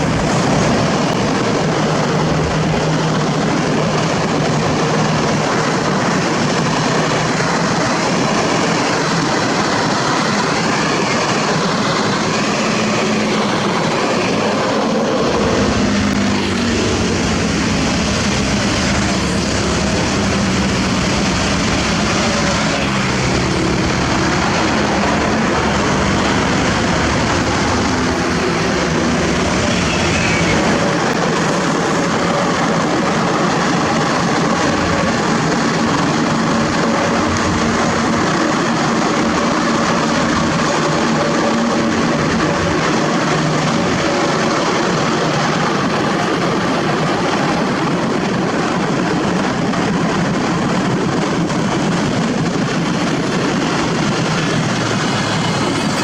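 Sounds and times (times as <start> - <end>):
heavy diesel engines running: 0.0 - 56.0
rising whine: 0.0 - 56.0.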